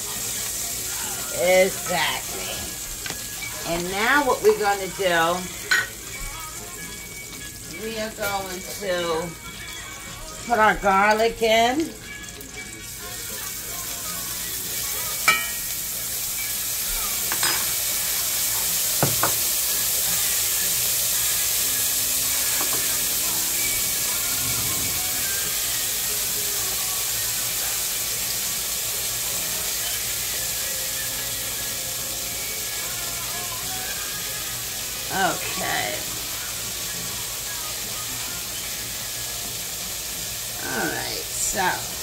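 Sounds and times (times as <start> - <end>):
garlic sizzling in a skillet: 0.0 - 42.0.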